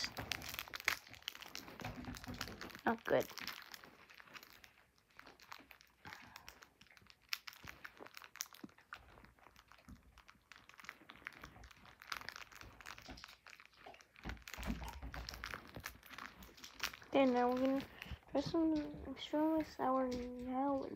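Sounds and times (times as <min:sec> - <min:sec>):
candy wrappers crinkling: 0:00.0 - 0:20.9.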